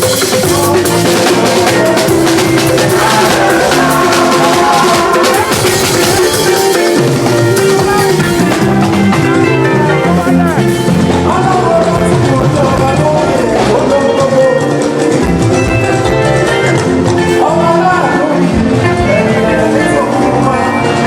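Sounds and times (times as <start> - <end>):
church band music: 0.0 - 21.0
drum kit beat: 0.0 - 21.0.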